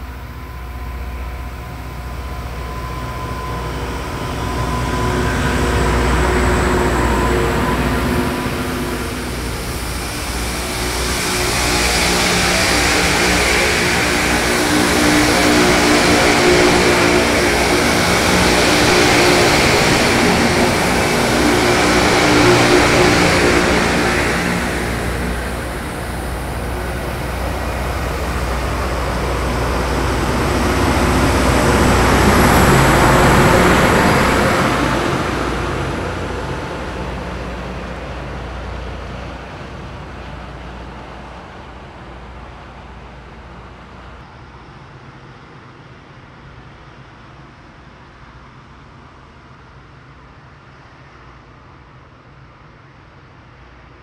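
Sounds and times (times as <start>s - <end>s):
low hum: 0.0s - 44.6s
freight train rumbling past: 0.0s - 51.4s.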